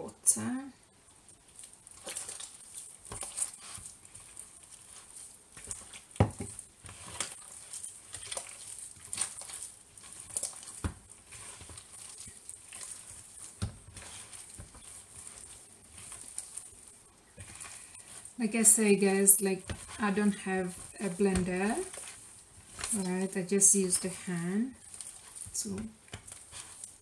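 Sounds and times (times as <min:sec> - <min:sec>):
hands squelching minced meat: 0:01.1 - 0:27.0.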